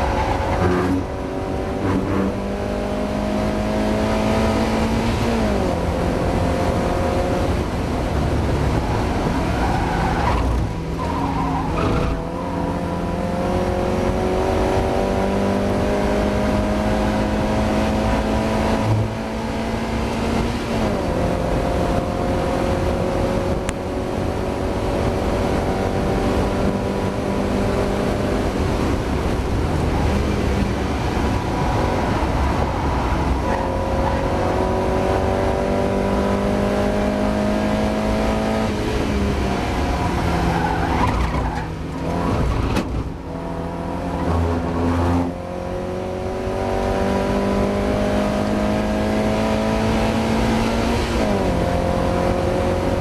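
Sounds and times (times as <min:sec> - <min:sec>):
race car engine revving through gears: 0:00.0 - 0:53.0.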